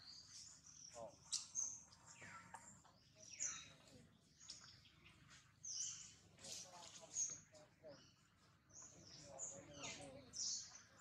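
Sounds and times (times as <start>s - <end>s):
faint birdsong chirps and whistles: 0.0s - 11.0s.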